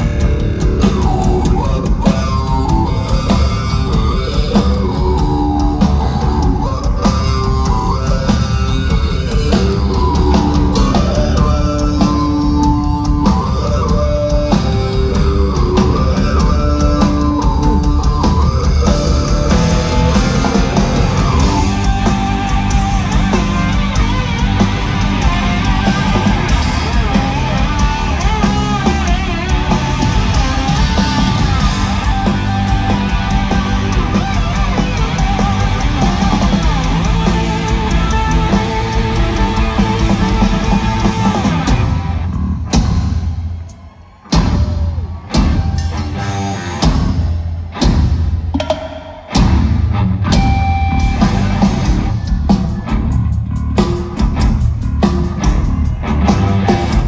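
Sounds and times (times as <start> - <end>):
live hard rock band: 0.0 - 57.0.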